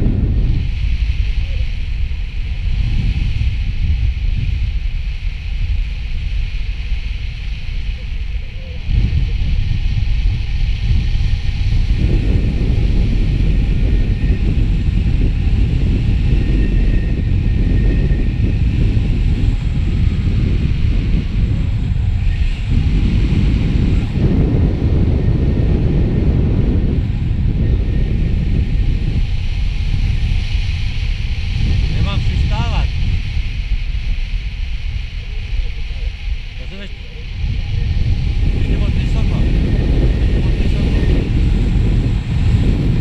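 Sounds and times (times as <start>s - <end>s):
wind rushing over microphone: 0.0s - 43.0s.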